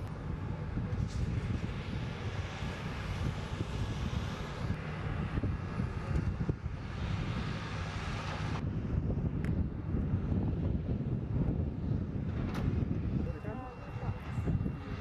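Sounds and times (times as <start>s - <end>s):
jet engines rumbling and hissing: 0.0s - 15.0s.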